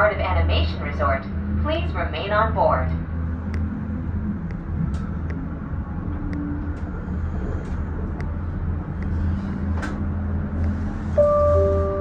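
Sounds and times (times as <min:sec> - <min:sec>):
gondola cabin rumble and hum: 0:00.0 - 0:12.0.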